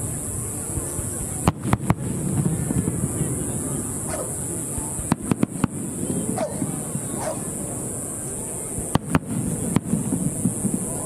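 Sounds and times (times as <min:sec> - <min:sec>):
crowd chatter: 0:00.0 - 0:11.0
fireworks cracking: 0:00.0 - 0:11.0.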